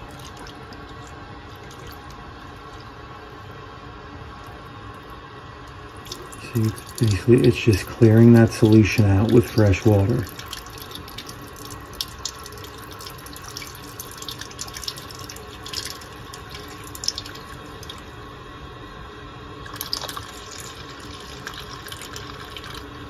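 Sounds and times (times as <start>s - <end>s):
water trickling into bucket: 0.0s - 3.0s, 4.4s - 18.2s, 19.6s - 23.0s.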